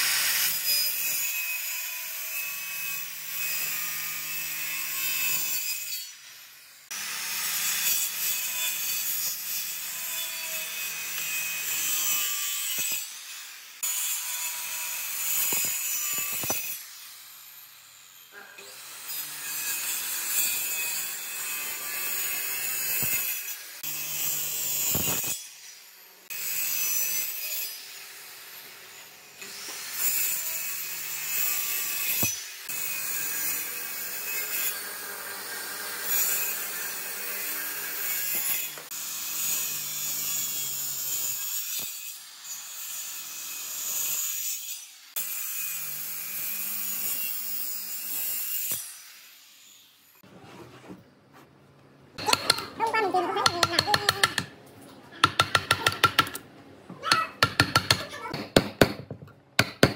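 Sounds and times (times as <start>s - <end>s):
circular saw cutting wood: 0.0s - 50.3s, 52.2s - 54.5s.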